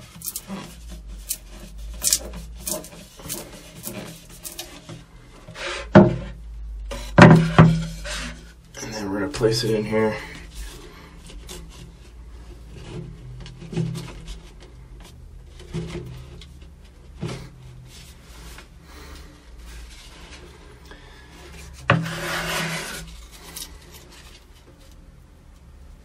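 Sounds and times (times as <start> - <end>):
pipe scraping: 0.0 - 25.2.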